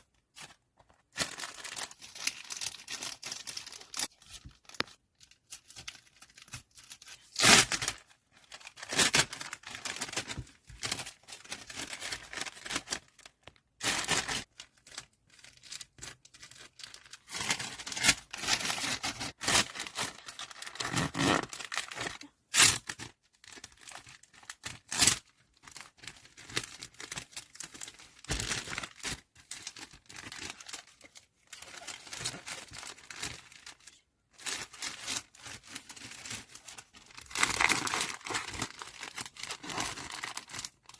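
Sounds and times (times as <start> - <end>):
plastic packaging crinkling: 0.0 - 40.9.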